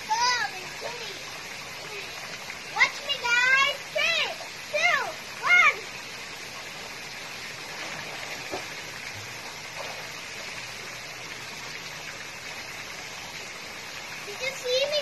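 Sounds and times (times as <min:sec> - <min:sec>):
fountain jets splashing into water: 0:00.0 - 0:15.0.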